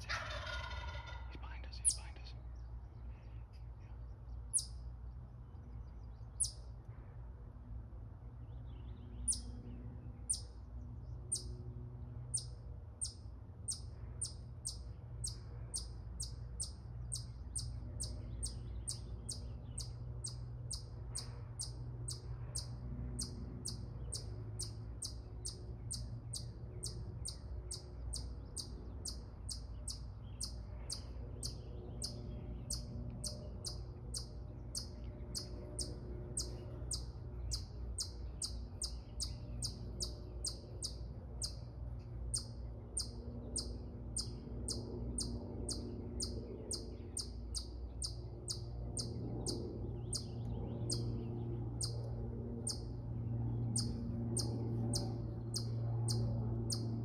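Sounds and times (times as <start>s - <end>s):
faint low rumble: 0.0s - 57.0s.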